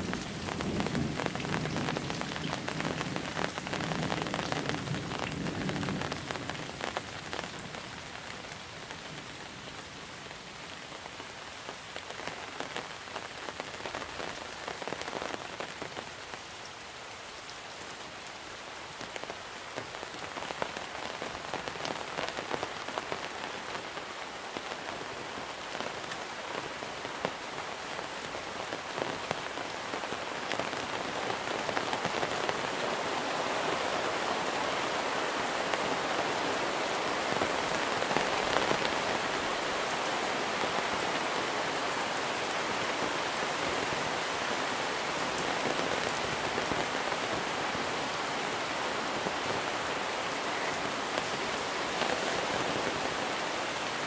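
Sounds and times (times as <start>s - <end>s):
heavy rain falling: 0.0s - 54.0s
raindrops pattering: 0.0s - 54.0s.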